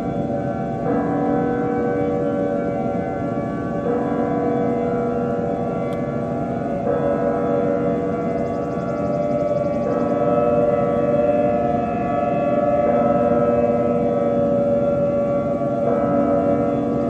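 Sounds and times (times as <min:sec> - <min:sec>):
siren-like chord drone: 0:00.0 - 0:17.0.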